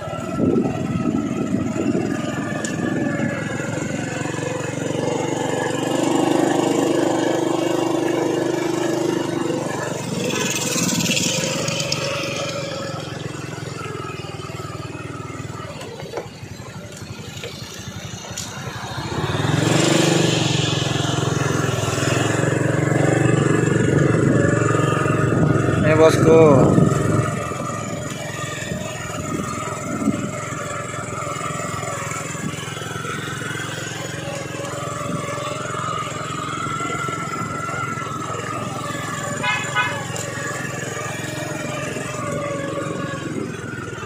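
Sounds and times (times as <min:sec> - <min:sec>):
car passing: 0:00.0 - 0:44.0
motor scooter passing: 0:00.0 - 0:44.0
vehicle engines running: 0:00.0 - 0:44.0.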